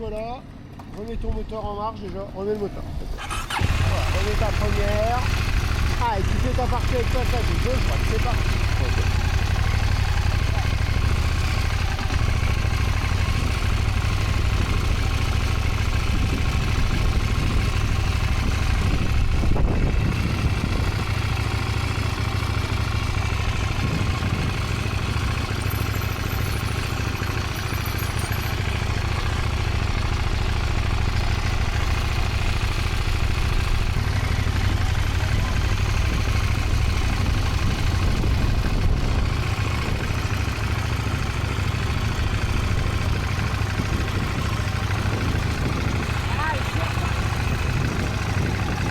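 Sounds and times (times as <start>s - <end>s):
motorcycle engine running: 2.9s - 48.9s.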